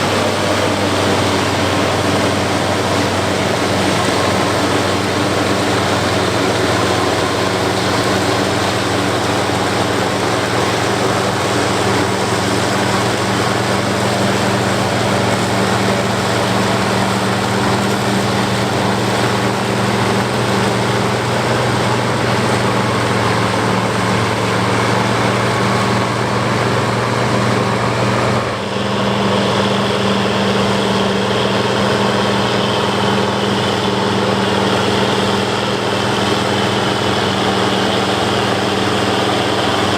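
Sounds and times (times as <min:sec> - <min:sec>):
forage harvester chopping: 0:00.0 - 0:39.9
tractor diesel engine hum: 0:00.0 - 0:39.9.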